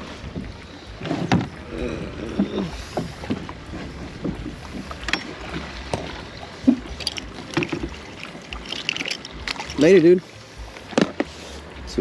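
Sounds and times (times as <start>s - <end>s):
water lapping around kayak: 0.0s - 12.0s.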